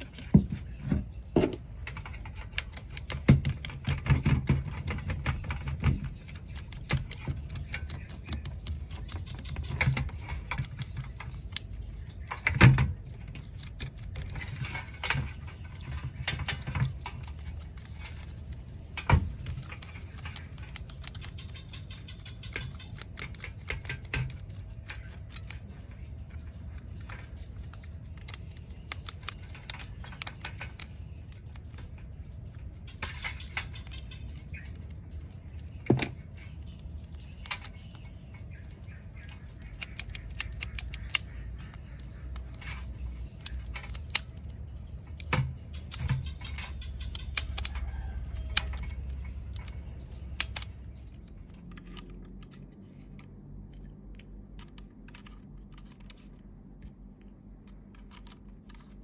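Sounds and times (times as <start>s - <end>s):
small parts clicking and rattling: 1.6s - 59.0s.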